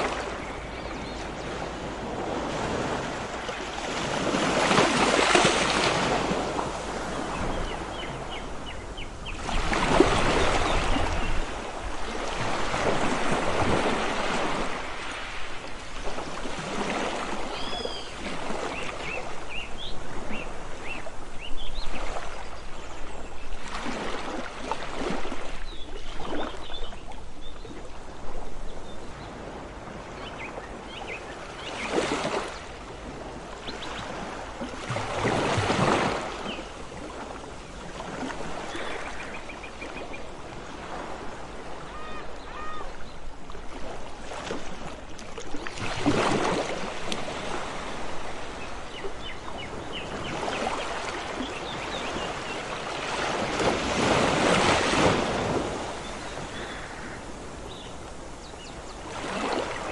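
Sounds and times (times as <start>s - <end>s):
sea waves washing onto beach: 0.0s - 59.9s.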